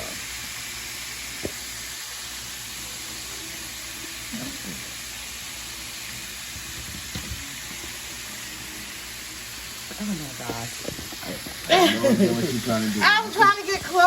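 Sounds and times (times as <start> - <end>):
deep-frying sizzle: 0.0 - 14.0.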